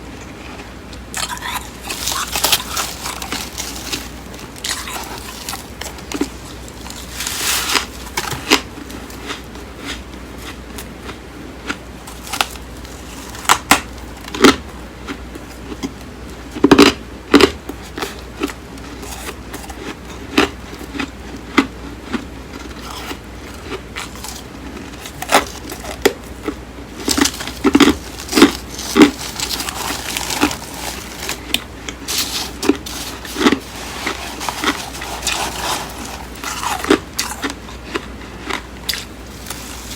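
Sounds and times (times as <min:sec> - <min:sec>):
frost being crunched and chewed: 0:00.6 - 0:16.0, 0:16.6 - 0:39.9.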